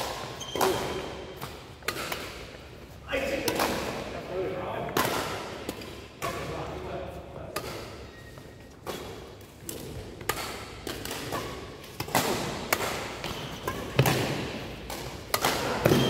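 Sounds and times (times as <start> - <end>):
rackets hitting shuttlecock: 0.0 - 4.2, 4.8 - 6.8, 7.4 - 16.0.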